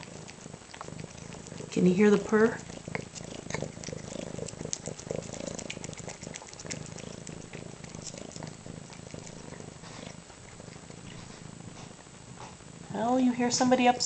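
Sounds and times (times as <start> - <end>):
wet chewing and licking: 0.0 - 12.0
kitten purring: 0.0 - 14.0.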